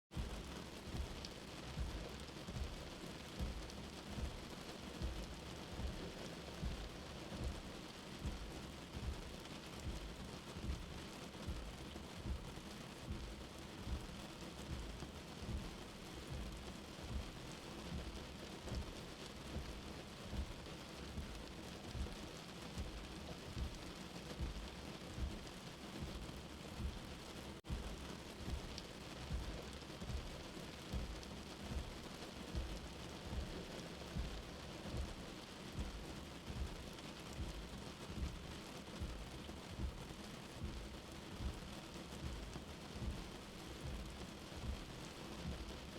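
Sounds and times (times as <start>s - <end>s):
rain heard from indoors: 0.1s - 45.9s
soft low heartbeat: 0.1s - 45.9s.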